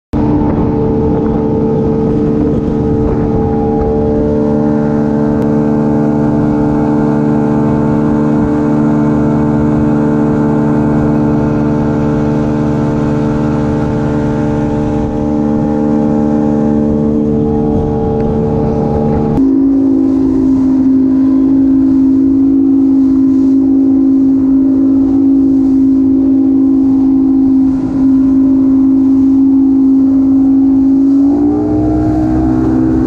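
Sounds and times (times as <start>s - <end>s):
motorboat engine drone: 0.1s - 33.0s
water rushing along hull: 0.1s - 33.0s.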